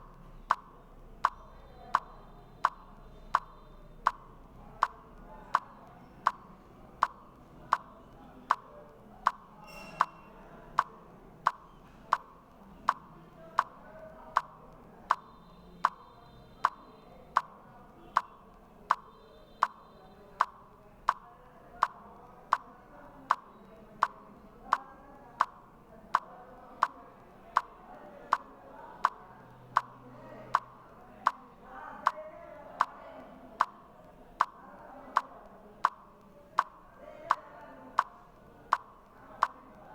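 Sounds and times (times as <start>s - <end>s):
sharp clicks: 0.0s - 10.2s, 10.8s - 13.8s, 14.4s - 32.2s, 32.8s - 34.6s, 35.2s - 39.9s.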